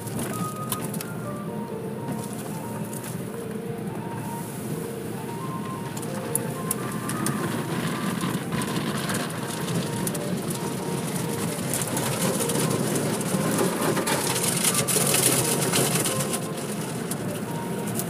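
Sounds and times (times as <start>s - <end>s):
car wash machinery running: 0.0s - 18.0s.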